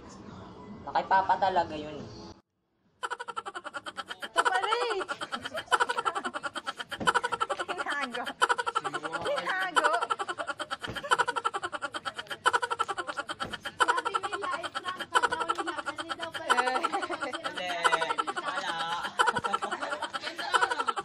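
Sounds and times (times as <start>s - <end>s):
person speaking: 3.0s - 21.0s
music with fast steady beat: 3.1s - 21.0s.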